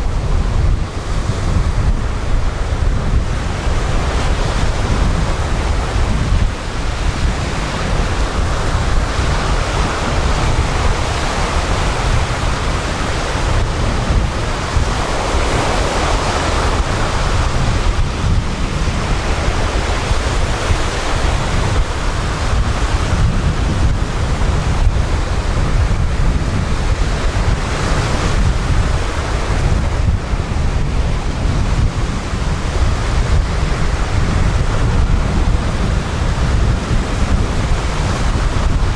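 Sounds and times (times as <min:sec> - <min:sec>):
surf breaking on beach: 0:00.0 - 0:38.9
wind buffeting microphone: 0:00.0 - 0:38.9.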